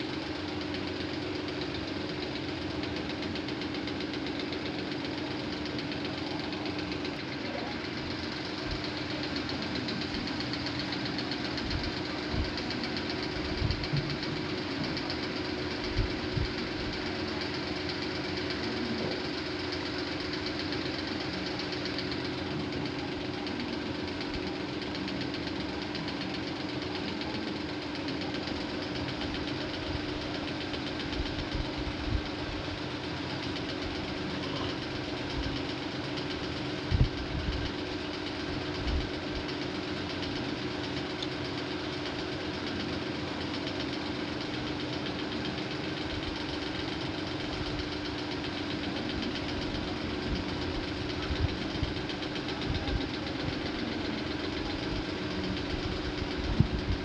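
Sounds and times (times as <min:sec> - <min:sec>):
motor running steadily: 0:00.0 - 0:57.0.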